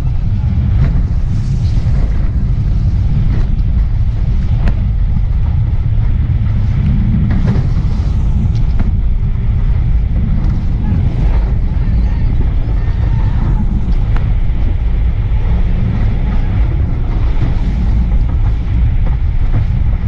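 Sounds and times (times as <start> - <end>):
motorboat running at high speed: 0.0 - 20.0
wind rumble on microphone: 0.0 - 20.0.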